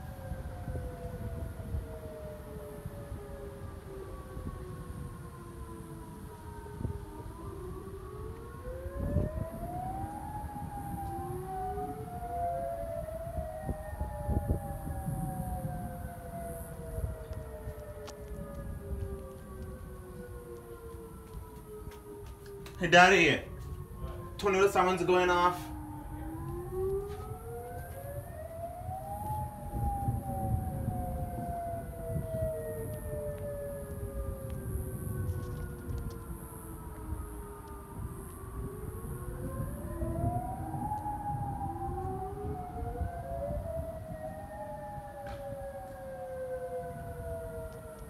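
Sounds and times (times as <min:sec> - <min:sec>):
warning sirens wailing: 0:00.0 - 0:48.0.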